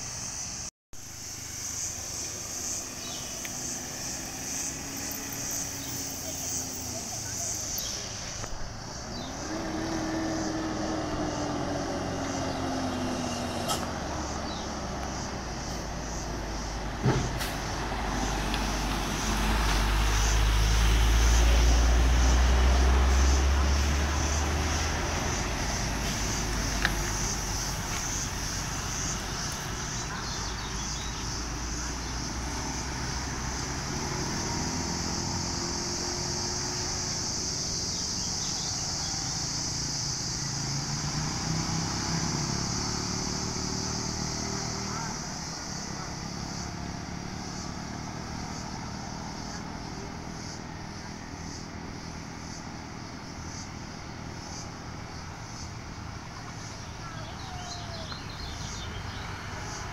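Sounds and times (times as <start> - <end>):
diesel truck engine rumble: 0.0 - 59.9
motorbikes passing: 0.0 - 59.9.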